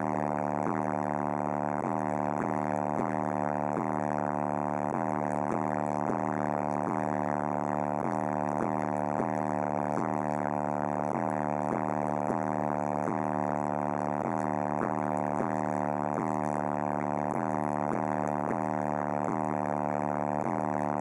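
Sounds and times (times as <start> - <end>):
distorted bass drone from subwoofers: 0.0 - 21.0.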